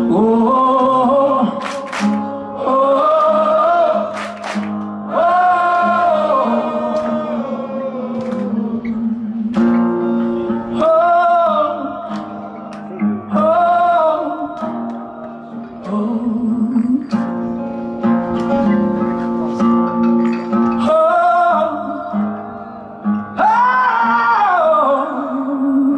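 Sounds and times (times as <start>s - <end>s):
man singing: 0.0s - 4.4s, 5.1s - 14.8s, 15.5s - 17.3s, 20.4s - 25.9s
guitar: 0.0s - 25.9s.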